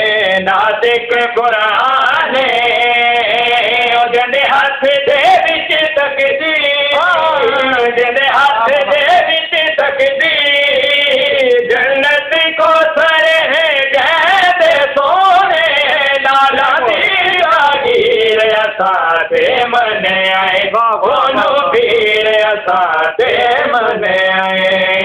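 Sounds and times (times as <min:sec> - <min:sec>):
two men singing unaccompanied: 0:00.0 - 0:25.0.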